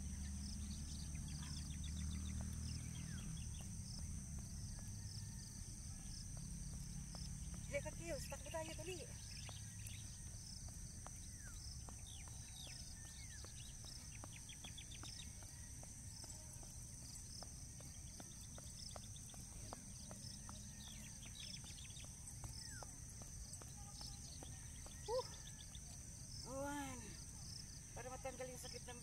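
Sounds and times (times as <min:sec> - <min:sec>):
birds chirping: 0:00.0 - 0:29.0
footfalls on concrete: 0:01.4 - 0:27.3.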